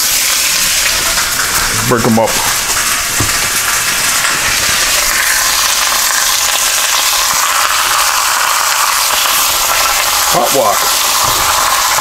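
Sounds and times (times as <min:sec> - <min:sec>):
steak sizzling in a wok: 0:00.0 - 0:12.0.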